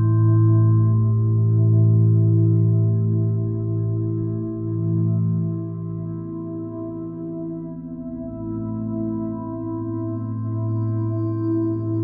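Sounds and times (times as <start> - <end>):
slow ambient music: 0.0 - 12.0.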